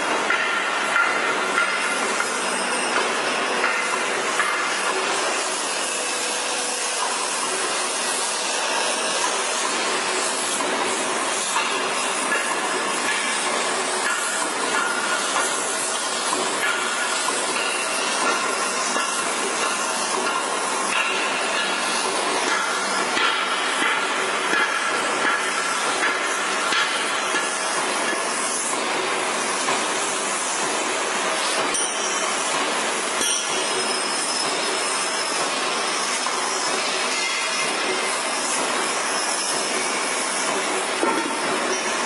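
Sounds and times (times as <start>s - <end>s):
lathe cutting metal: 0.0s - 42.0s.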